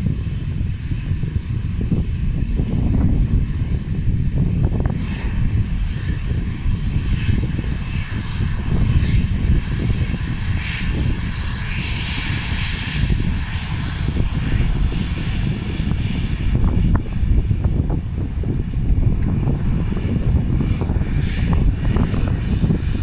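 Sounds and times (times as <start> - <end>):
airliner engine rumble: 0.0 - 23.0.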